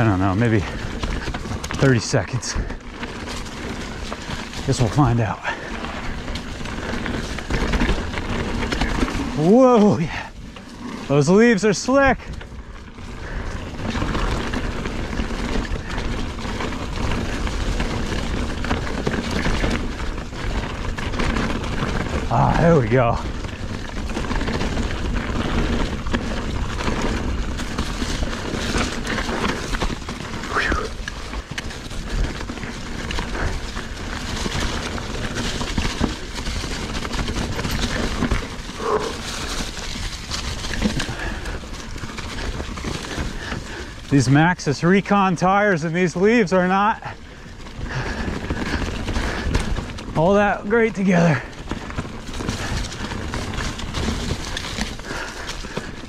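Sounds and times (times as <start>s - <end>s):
bike knocks and rattles: 0.0s - 44.4s, 47.0s - 56.0s
bike tyres crunching leaves: 0.0s - 56.0s.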